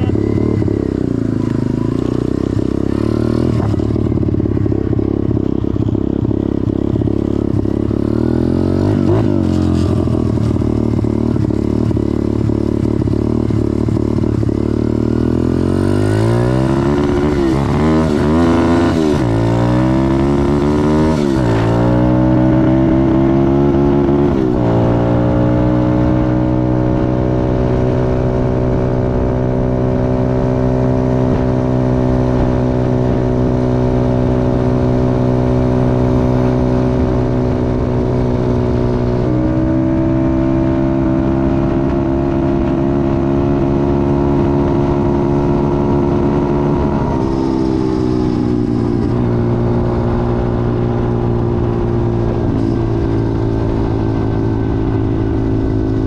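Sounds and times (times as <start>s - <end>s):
pit bike engine revving: 0.0s - 56.0s.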